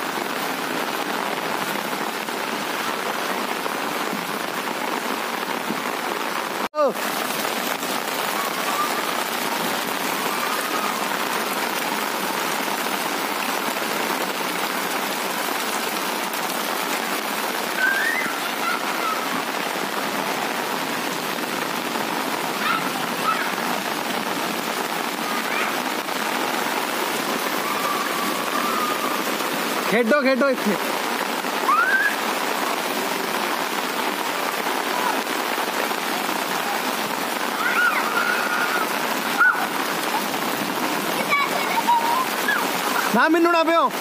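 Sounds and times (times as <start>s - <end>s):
heavy rain on pavement: 0.0s - 44.0s.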